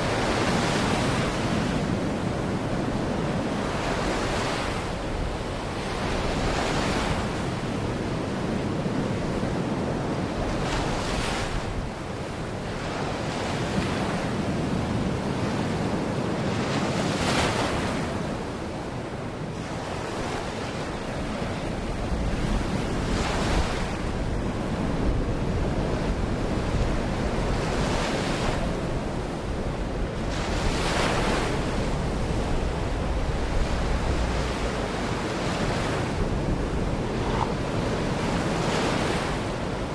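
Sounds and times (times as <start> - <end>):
waves washing onto shore: 0.0 - 39.9
wind rumbling on microphone: 0.0 - 39.9.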